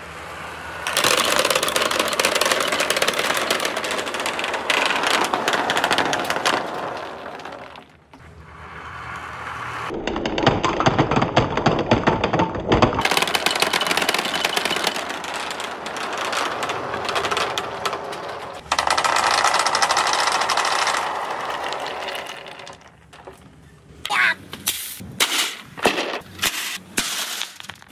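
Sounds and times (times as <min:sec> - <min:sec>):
plastic balls clattering down ramps: 0:00.9 - 0:08.2, 0:09.9 - 0:23.5, 0:25.2 - 0:27.9.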